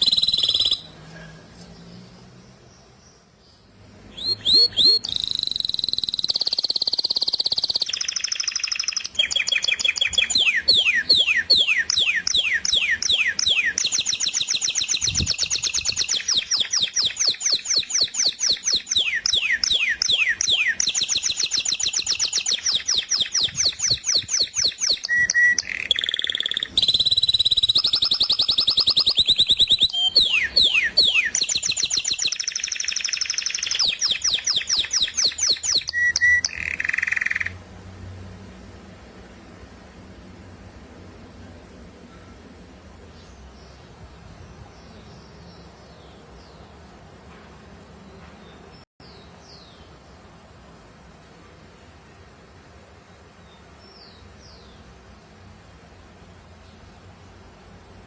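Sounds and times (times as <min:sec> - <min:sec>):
songbirds singing: 0:00.0 - 0:37.6, 0:41.4 - 0:50.8, 0:52.0 - 0:58.0.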